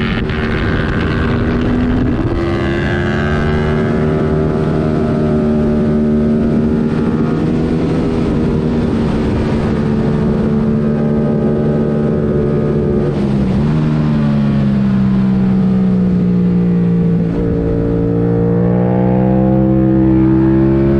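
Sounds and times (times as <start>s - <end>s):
motorcycle engine revving high: 0.0s - 20.9s.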